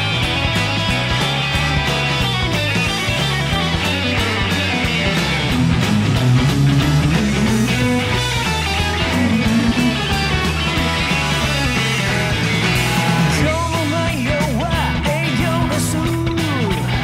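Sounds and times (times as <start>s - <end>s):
bass guitar: 0.0s - 17.0s
electric guitar rock playing: 0.0s - 17.0s
steady drum beat: 0.0s - 17.0s.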